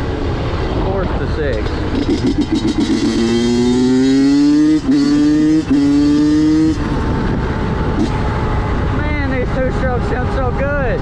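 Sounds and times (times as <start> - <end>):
two-stroke engine accelerating: 0.8 - 10.8.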